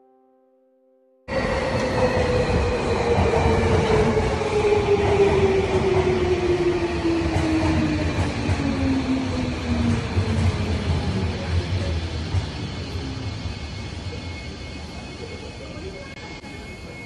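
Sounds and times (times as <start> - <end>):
train electric motor whine: 1.3 - 17.0
train wheels rumbling on rails: 1.3 - 17.0.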